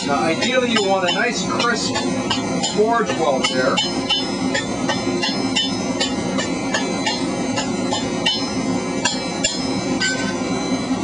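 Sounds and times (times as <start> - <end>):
hammer striking metal on anvil: 0.0 - 10.4.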